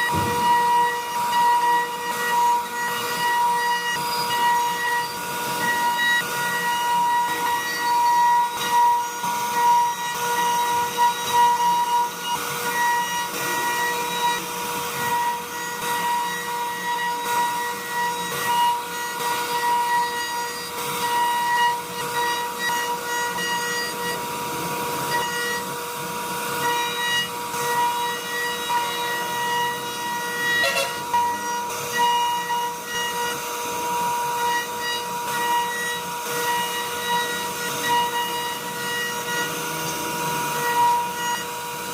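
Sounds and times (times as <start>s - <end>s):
router spindle high whine: 0.0s - 41.9s.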